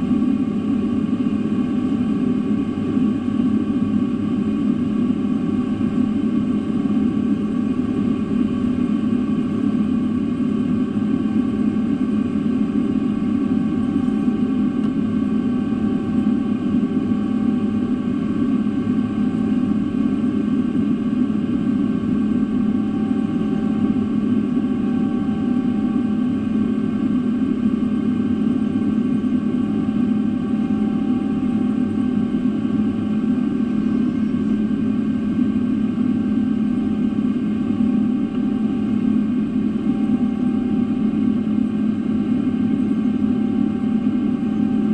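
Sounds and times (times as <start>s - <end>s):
jet engine and airflow drone: 0.0s - 44.9s.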